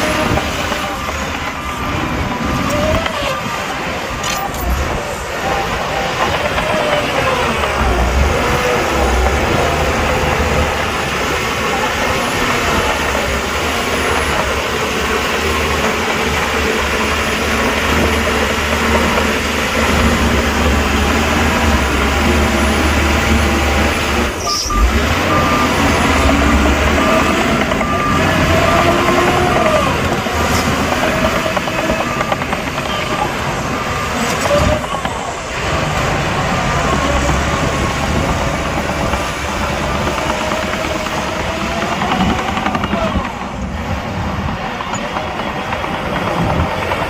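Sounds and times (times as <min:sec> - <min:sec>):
reversing alarm beeping: 0:00.0 - 0:43.6
diesel machinery engine running: 0:00.0 - 0:47.0.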